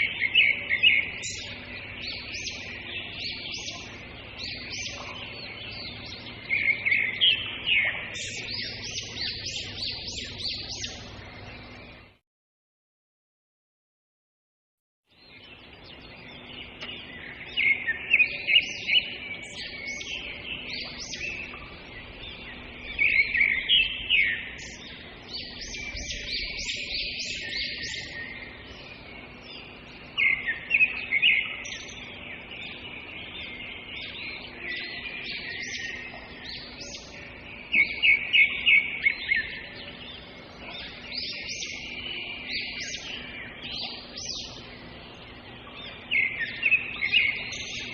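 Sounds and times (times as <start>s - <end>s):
faint steady hum: 0.0s - 12.2s, 15.2s - 47.9s
songbirds chirping: 0.0s - 12.2s, 15.1s - 47.9s.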